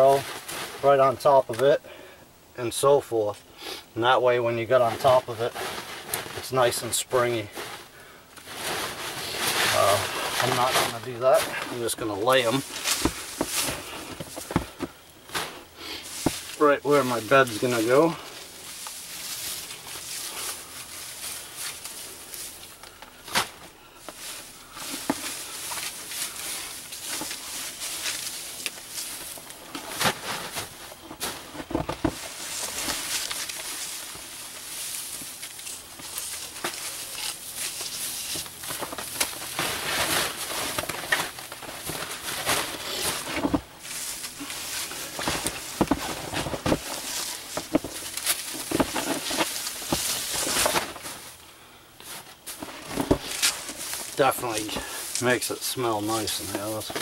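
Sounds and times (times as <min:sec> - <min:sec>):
evergreen boughs rustling: 0:00.0 - 0:57.0
needles and snow crunching: 0:04.7 - 0:51.4, 0:52.0 - 0:57.0.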